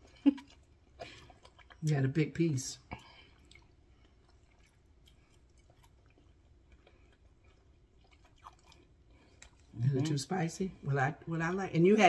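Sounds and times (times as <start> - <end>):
chewing food: 0.0 - 10.3.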